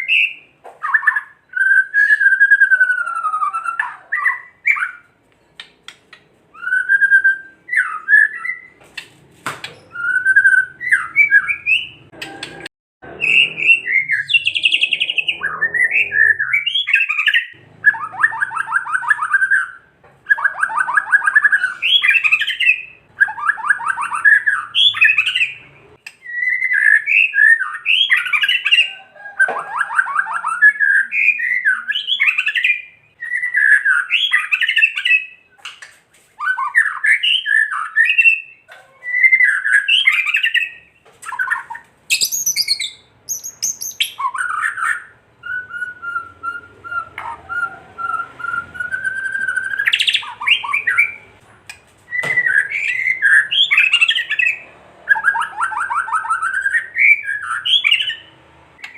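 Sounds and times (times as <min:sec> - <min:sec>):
bird chattering song: 0:00.0 - 0:35.9, 0:36.5 - 0:58.9.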